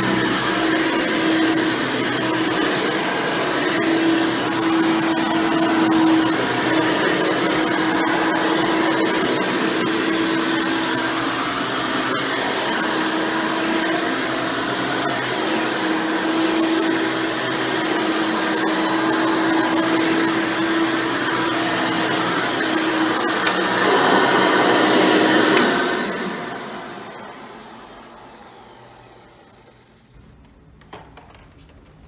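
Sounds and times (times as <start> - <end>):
vacuum cleaner running: 0.0 - 30.2.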